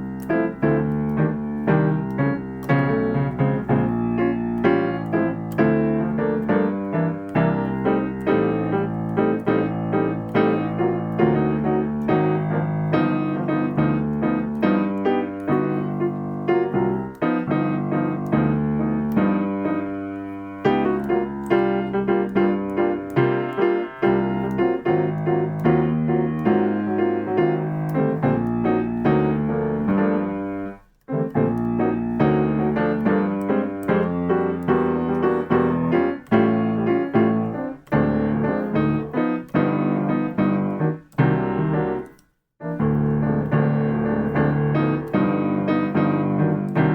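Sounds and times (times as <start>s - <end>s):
solo jazz piano chords: 0.0s - 46.9s.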